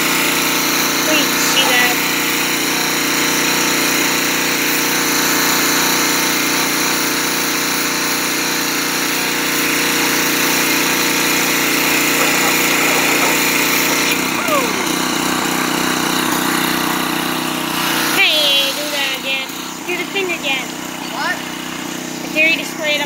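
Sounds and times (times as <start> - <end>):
high-pressure water jet hissing: 0.0 - 21.2
pressure washer engine droning: 0.0 - 23.0.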